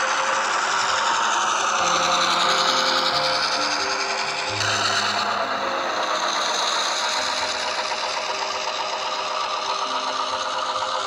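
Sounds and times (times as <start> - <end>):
diesel engine sound from small speaker: 0.0 - 11.0
background music: 0.8 - 11.0.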